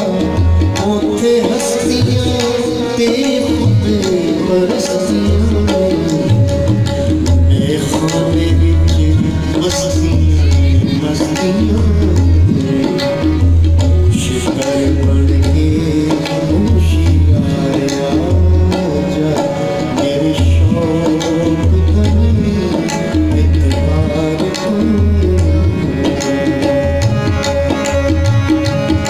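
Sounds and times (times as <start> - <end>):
harmonium chords and melody: 0.0 - 29.0
tabla rhythm: 0.0 - 29.0.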